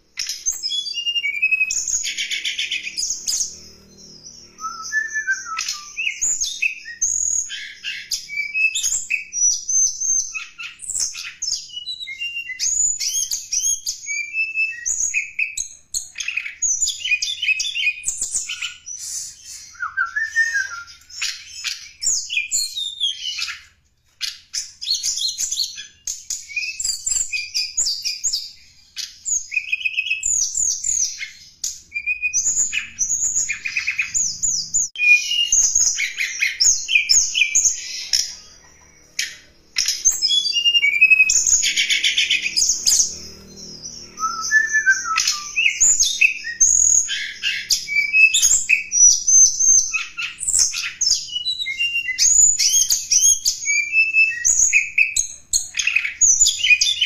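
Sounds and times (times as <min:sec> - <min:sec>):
songbird twittering: 0:00.0 - 0:57.0.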